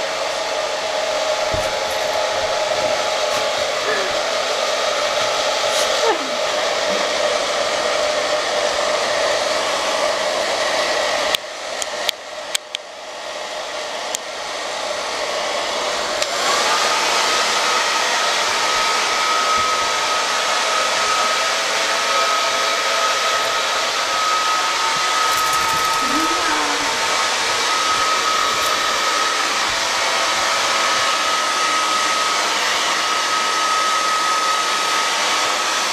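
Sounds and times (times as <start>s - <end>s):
hair dryer blowing: 0.0s - 35.9s.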